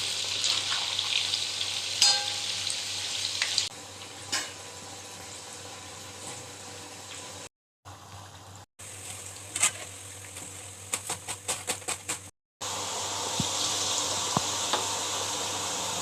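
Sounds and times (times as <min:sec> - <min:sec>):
hot oil sizzling: 0:00.0 - 0:11.0, 0:12.6 - 0:16.0.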